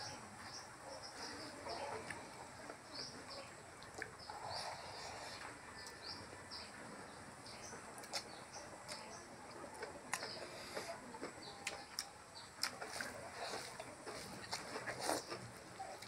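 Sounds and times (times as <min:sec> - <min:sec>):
people chewing and lip smacking: 0:00.0 - 0:16.0.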